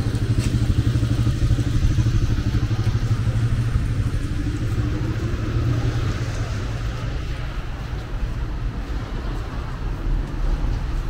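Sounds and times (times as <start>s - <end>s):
vehicle engine running at low revs: 0.0s - 11.0s.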